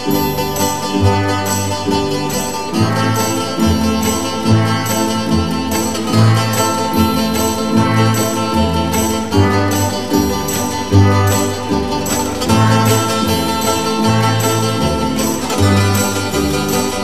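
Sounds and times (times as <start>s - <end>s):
instrumental music with steady beat: 0.0s - 17.0s
low bass line: 0.0s - 17.0s.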